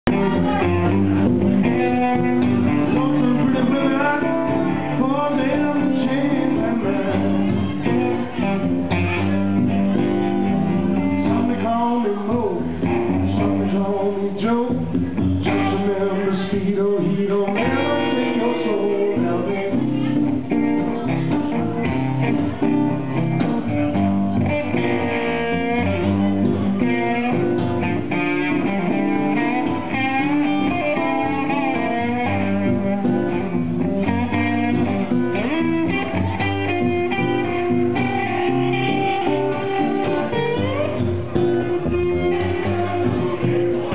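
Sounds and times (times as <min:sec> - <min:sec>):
live band guitar music: 0:00.0 - 0:43.9.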